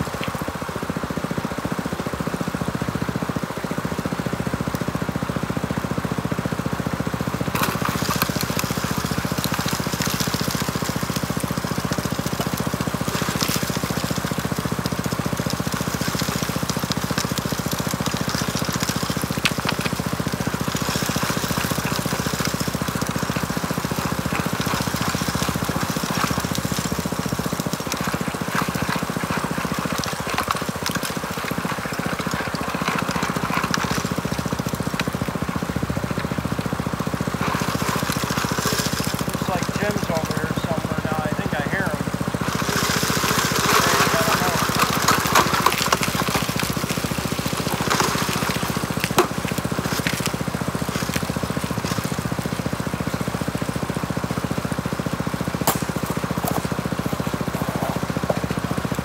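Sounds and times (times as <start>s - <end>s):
small gas engine running: 0.0s - 59.0s
water rushing through sluice: 0.0s - 59.0s.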